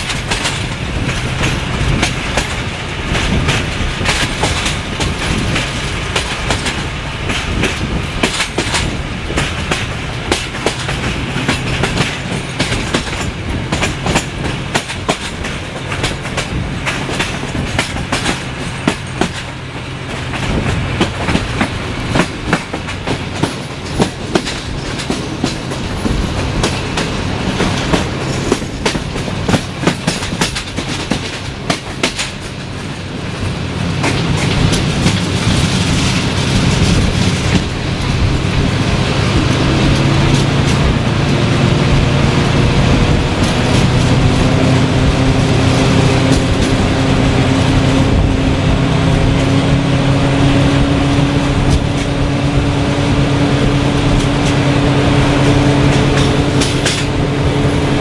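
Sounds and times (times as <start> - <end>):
diesel locomotive drone: 0.0 - 58.0
train wheels clicking over rail joints: 0.0 - 58.0.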